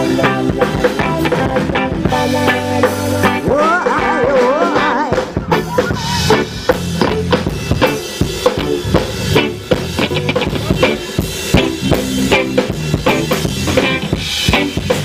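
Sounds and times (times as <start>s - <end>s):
bass and guitar: 0.0s - 15.0s
drum kit beat: 0.0s - 15.0s
electric guitar lead with bent notes: 0.0s - 15.0s.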